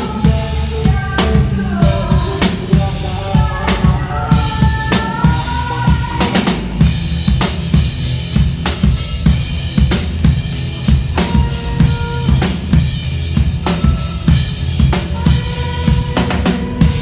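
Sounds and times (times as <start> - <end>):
drum kit kick and snare: 0.0 - 17.0
live band playing: 0.0 - 17.0.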